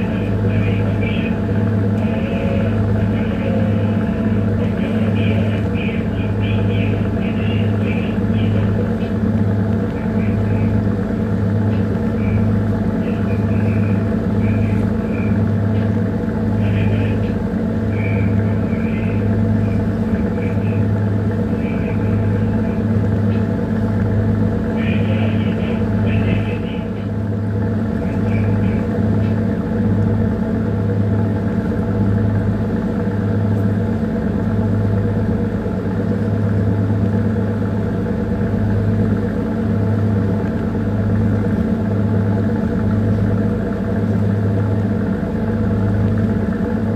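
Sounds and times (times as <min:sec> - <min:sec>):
throbbing diesel engine drone: 0:00.0 - 0:46.9.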